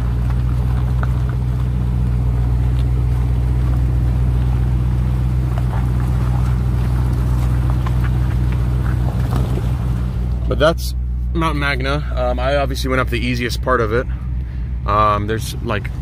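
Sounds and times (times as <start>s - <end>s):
gravel clicking under tyre: 0.0s - 16.0s
truck engine running steadily: 0.0s - 16.0s.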